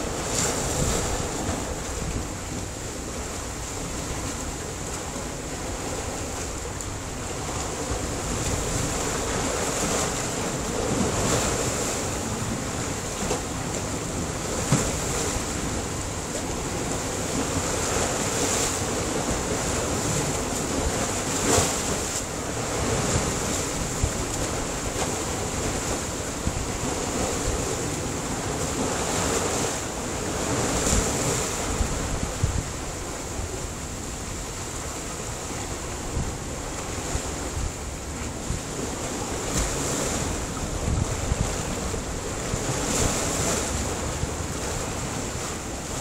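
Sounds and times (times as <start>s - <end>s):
waves breaking on rocks: 0.0s - 46.0s.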